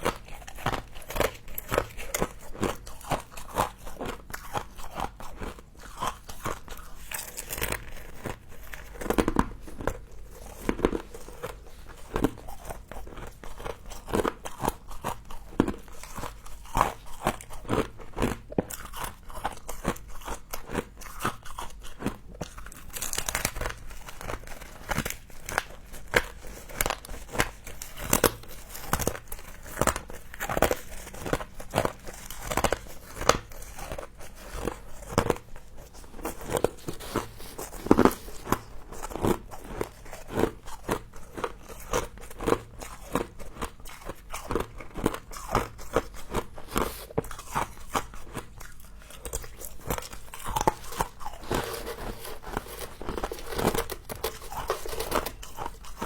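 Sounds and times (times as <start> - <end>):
person chewing frost crunches: 0.0 - 56.0.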